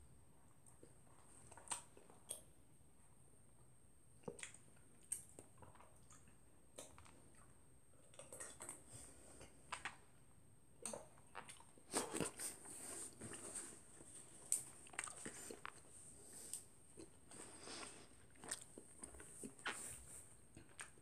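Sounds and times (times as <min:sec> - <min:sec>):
chewing cereal: 0:00.6 - 0:02.5, 0:04.2 - 0:10.1, 0:10.8 - 0:21.0.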